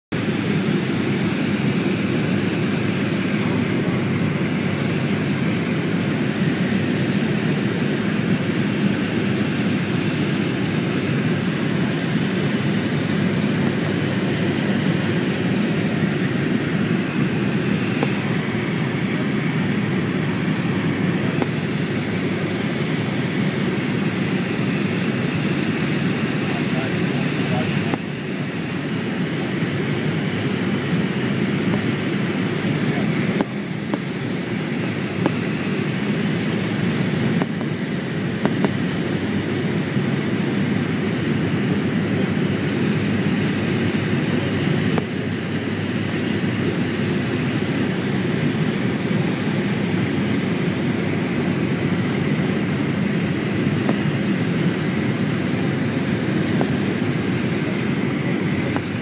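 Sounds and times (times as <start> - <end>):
airliner cabin engine rumble: 0.1 - 59.0.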